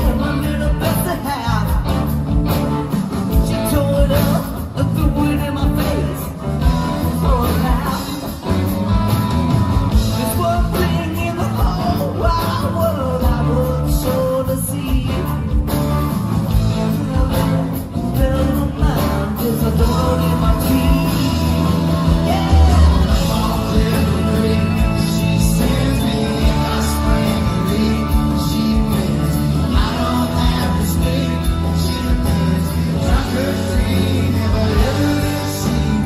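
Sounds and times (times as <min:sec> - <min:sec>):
rock song with singing: 0:00.0 - 0:36.0.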